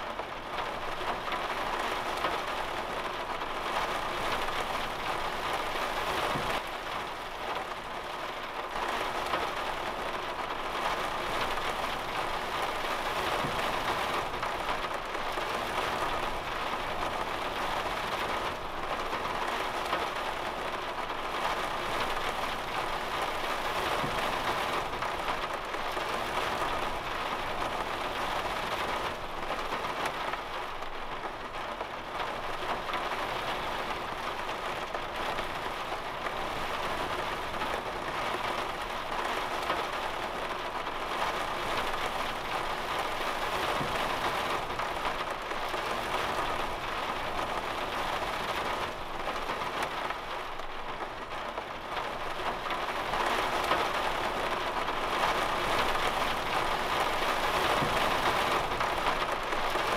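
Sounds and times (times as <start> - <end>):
heavy rain on vehicle roof: 0.0 - 59.9.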